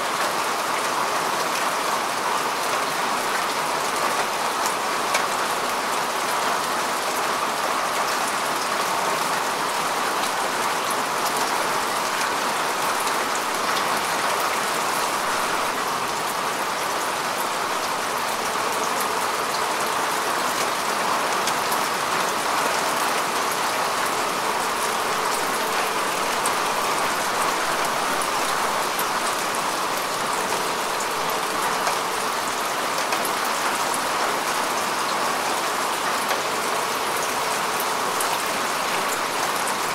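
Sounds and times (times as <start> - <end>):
rain falling on grass: 0.0 - 39.9.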